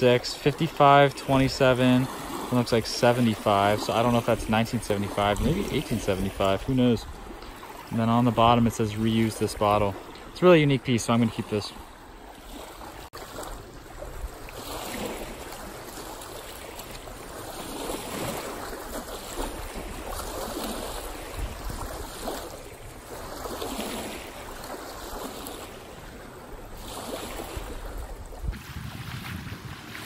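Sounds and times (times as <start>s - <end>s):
waves lapping on gravel shore: 0.0s - 30.0s.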